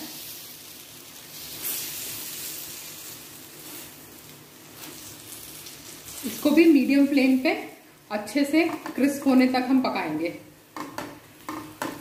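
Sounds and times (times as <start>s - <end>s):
flatbread sizzling in a pan: 0.0s - 9.7s.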